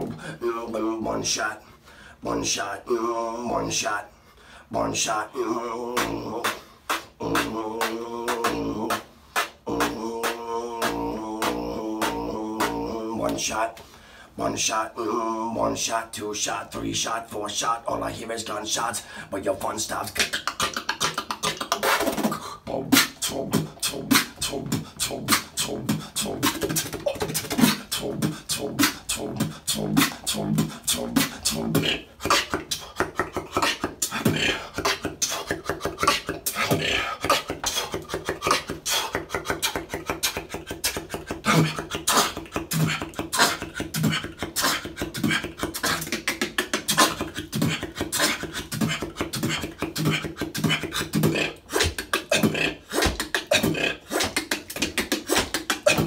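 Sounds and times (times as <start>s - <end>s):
person beatboxing: 0.0s - 1.6s, 2.2s - 2.9s, 4.7s - 56.0s.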